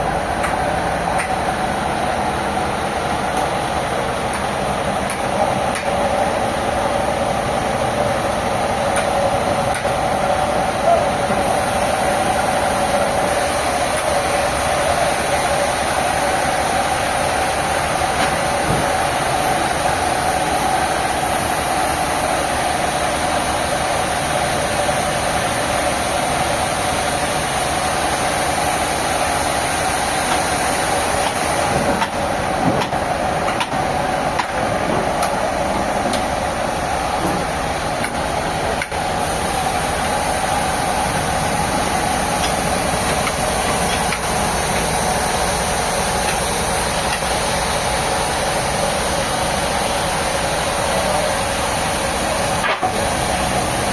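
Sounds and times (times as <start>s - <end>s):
sawmill machinery drone: 0.0s - 53.9s.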